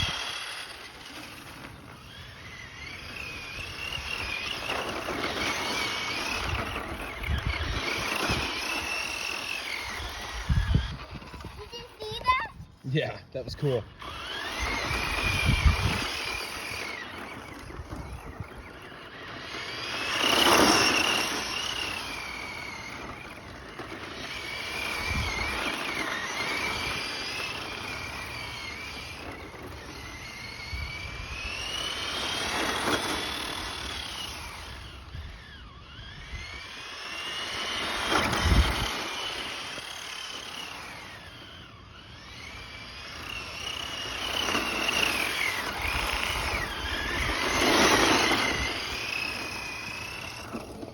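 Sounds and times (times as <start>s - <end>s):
toy car electric motor whining: 0.0s - 50.9s.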